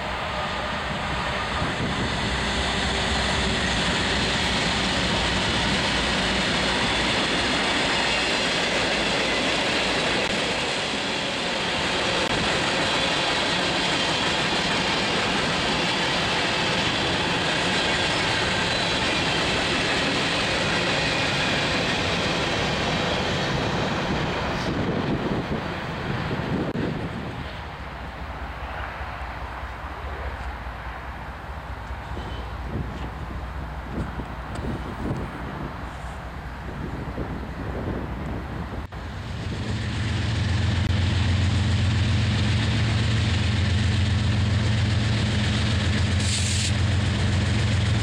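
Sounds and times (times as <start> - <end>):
train wheels rolling on rails: 0.0 - 48.0.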